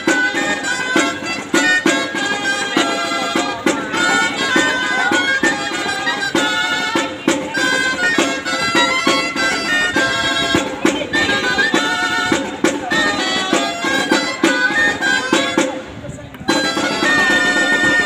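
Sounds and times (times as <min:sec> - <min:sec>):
reed wind instrument melody: 0:00.0 - 0:18.0
regular drum beat: 0:00.0 - 0:18.0.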